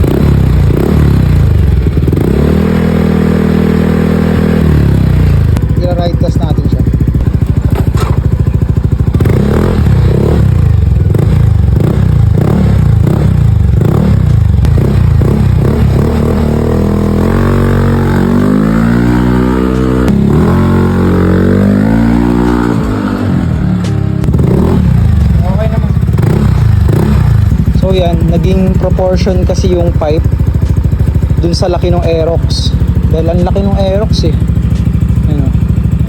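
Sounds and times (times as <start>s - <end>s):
scooter engine accelerating: 0.0s - 36.0s.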